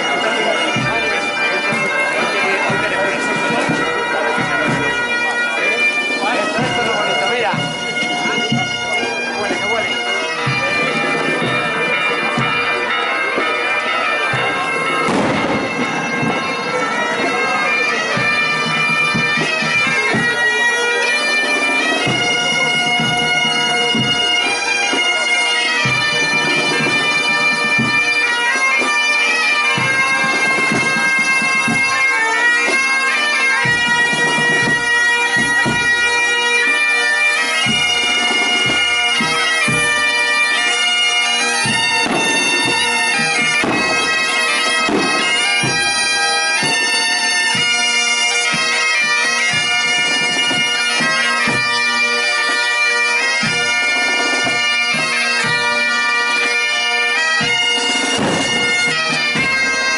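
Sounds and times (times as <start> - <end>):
bagpipe band playing: 0.0 - 59.9.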